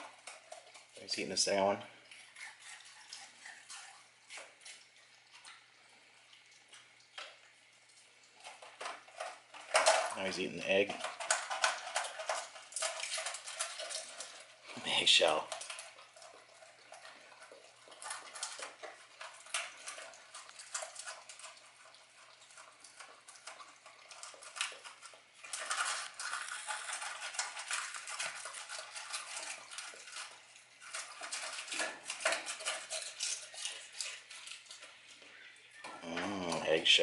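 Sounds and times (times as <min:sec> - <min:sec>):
dog licking and chewing: 0:00.0 - 0:37.0.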